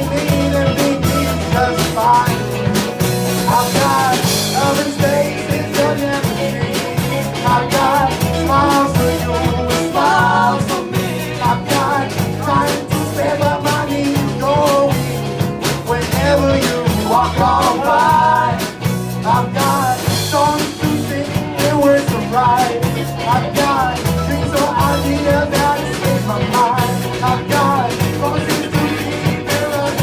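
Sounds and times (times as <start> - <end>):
live rock band playing: 0.0 - 30.0
man singing: 0.0 - 30.0.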